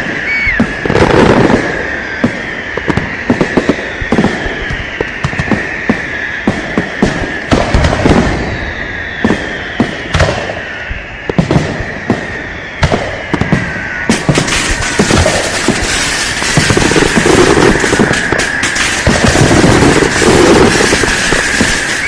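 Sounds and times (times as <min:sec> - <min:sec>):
fireworks bangs: 0:00.0 - 0:22.0
fireworks crackling: 0:00.0 - 0:22.0
whistling fireworks: 0:00.0 - 0:22.0.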